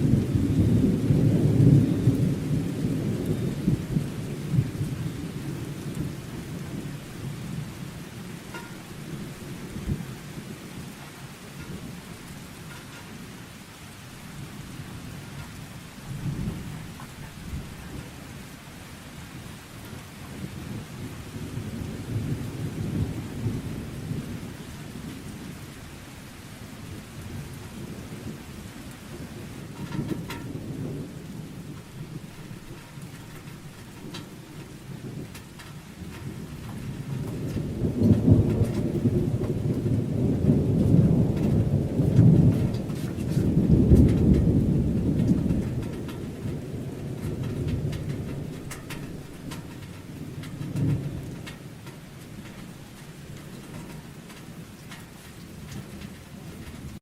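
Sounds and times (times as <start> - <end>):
low thunder rumbling: 0.0 - 57.0
steady rain hissing: 0.0 - 57.0.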